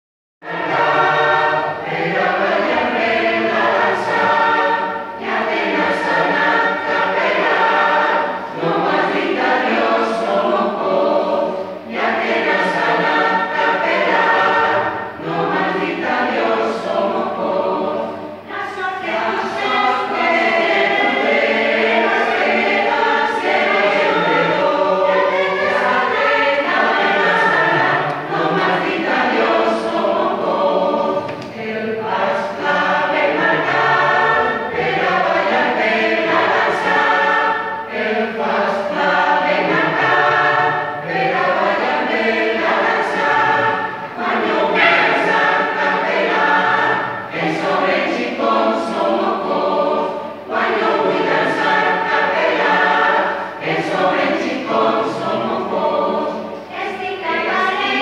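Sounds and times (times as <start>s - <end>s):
mixed choir singing: 0.4s - 58.0s.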